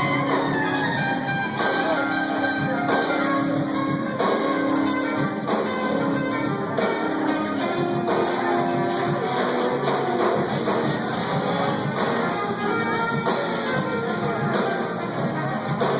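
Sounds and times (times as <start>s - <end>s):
guitar: 0.0s - 15.9s
live band playing: 0.0s - 15.9s.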